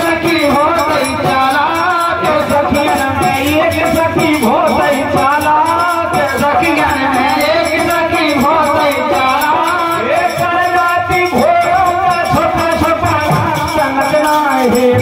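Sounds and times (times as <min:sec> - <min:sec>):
person singing: 0:00.0 - 0:15.0
rattling jingling percussion: 0:00.0 - 0:15.0.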